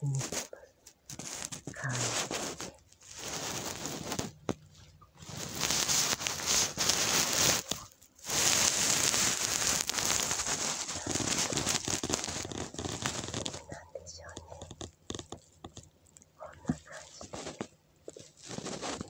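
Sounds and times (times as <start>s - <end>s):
phone rustling against plastic container: 0.3s - 19.0s.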